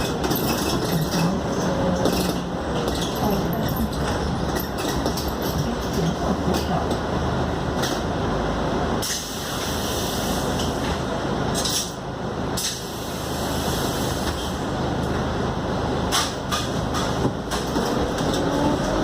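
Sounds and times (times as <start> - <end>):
bus engine drone: 0.0 - 19.0
road and rolling noise: 0.0 - 19.0.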